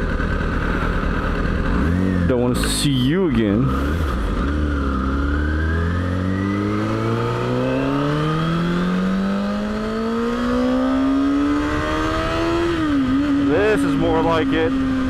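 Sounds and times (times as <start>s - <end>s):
motorcycle engine accelerating: 0.0s - 15.0s
wind and road noise: 0.0s - 15.0s.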